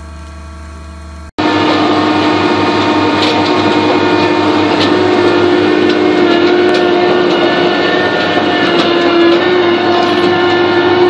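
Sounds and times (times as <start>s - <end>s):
drilling rig engine humming: 0.0s - 11.0s.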